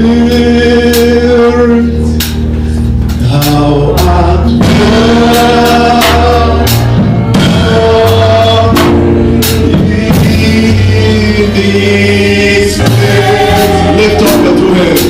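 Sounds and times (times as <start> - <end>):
gospel singing with live band: 0.0 - 15.0.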